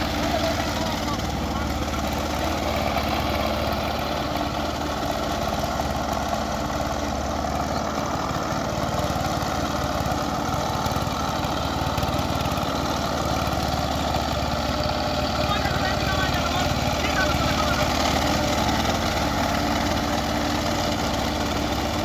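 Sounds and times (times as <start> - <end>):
diesel tiller engine running: 0.0 - 22.0.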